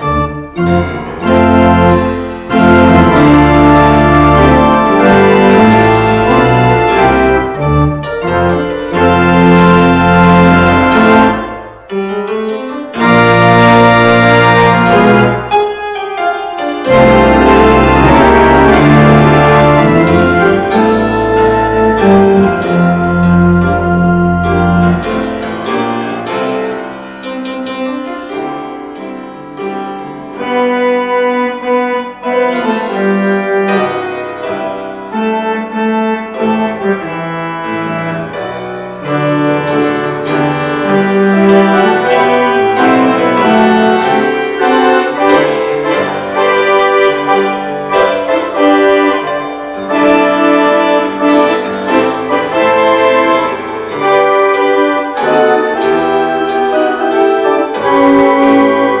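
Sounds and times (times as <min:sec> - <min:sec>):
instrumental piano music: 0:00.0 - 0:59.0.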